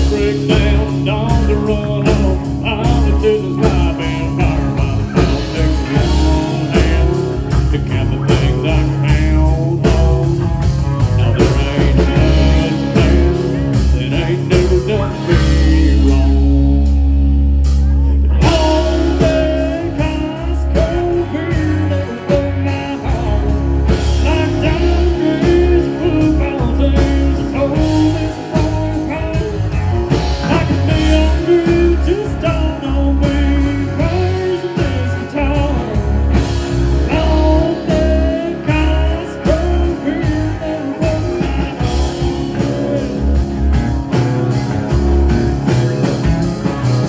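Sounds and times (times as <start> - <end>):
drum kit: 0.0 - 47.0
electric guitars: 0.0 - 47.0
heavy pulsing bass: 0.0 - 47.0
man singing: 0.0 - 47.0.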